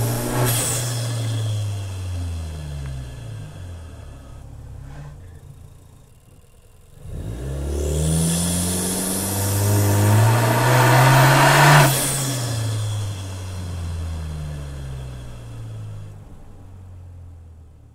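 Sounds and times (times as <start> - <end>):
car engine accelerating: 0.0 - 17.9.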